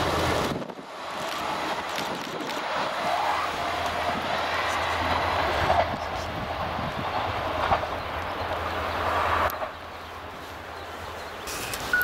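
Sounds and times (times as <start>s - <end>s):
diesel train engine and rail rumble: 0.0s - 12.0s.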